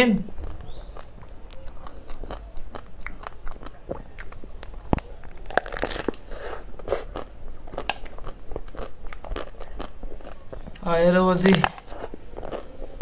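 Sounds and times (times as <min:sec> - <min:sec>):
chocolate shell crunching: 0:00.4 - 0:13.0.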